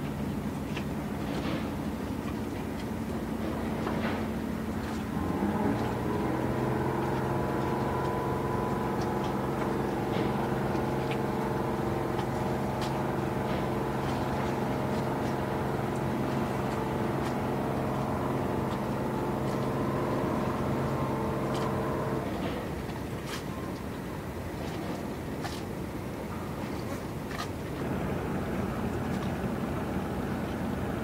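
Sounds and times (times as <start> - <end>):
motorboat engine drone: 0.0 - 31.0.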